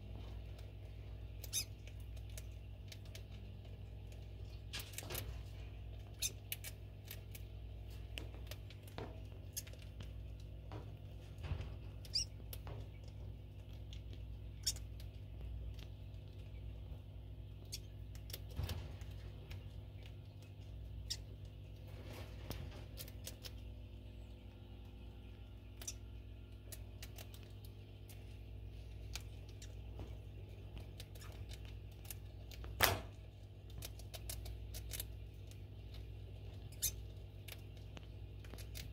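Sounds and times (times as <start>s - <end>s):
rodent gnawing food: 0.0s - 38.9s
steady low hum: 0.0s - 38.9s.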